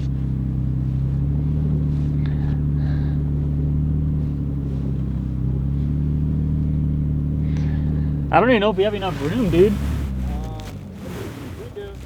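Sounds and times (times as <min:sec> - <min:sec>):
truck engine running at low revs: 0:00.0 - 0:12.0.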